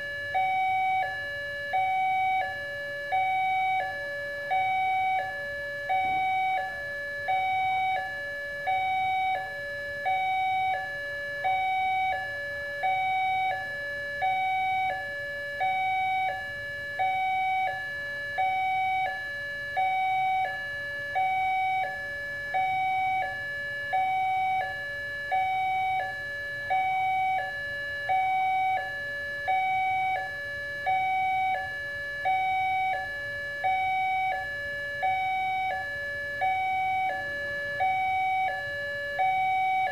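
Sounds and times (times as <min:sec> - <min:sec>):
two-tone crossing alarm chime: 0:00.0 - 0:39.9.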